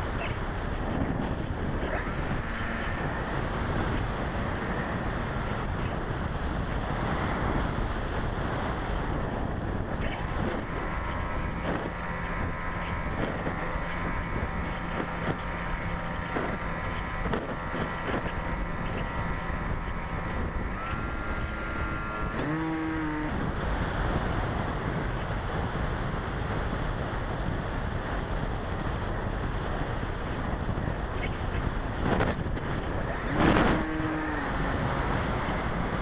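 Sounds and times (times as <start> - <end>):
electric motor and propeller whine: 0.0 - 36.0
wind rushing on microphone: 0.0 - 36.0.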